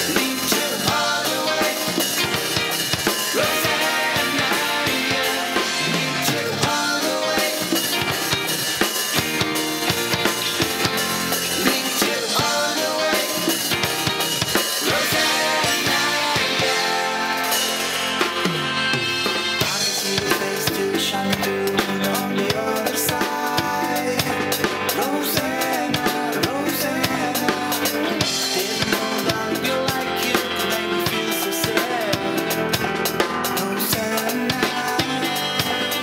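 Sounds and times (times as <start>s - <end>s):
drum kit beat: 0.0s - 36.0s
rock band playing: 0.0s - 36.0s.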